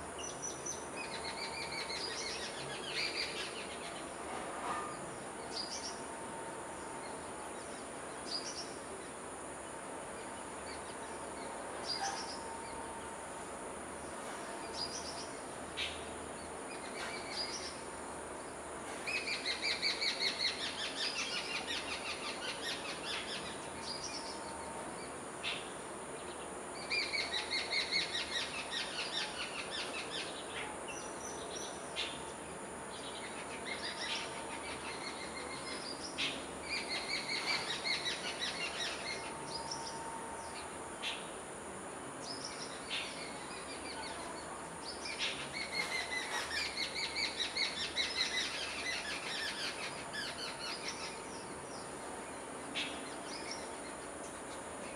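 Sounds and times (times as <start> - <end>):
steady high hiss: 0.0 - 54.9.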